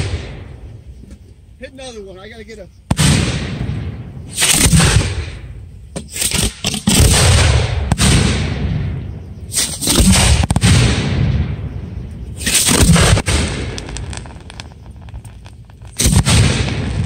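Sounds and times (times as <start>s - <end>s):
sharp firework cracks: 0.0s - 0.7s, 2.9s - 17.0s
fireworks bangs echoing: 0.0s - 0.9s, 2.8s - 17.0s.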